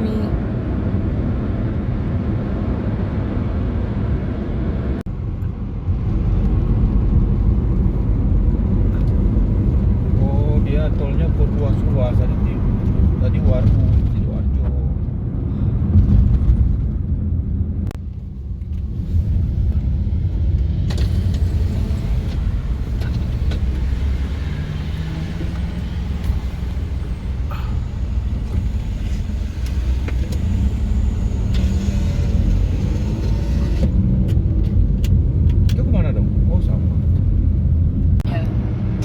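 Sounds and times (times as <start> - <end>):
car interior road noise: 0.0 - 39.0.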